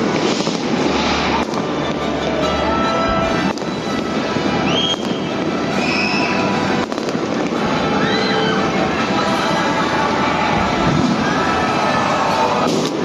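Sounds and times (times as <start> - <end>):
fireworks bursting and crackling: 0.0 - 13.0
fireworks pitch glides: 0.0 - 13.0
fireworks sharp bangs: 0.0 - 13.0.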